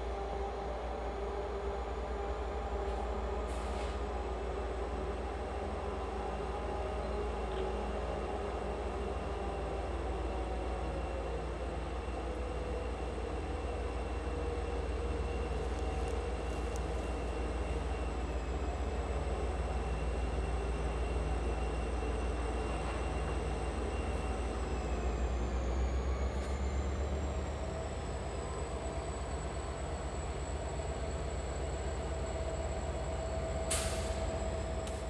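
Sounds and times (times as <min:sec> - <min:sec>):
diesel locomotive engine rumble: 0:00.0 - 0:35.0.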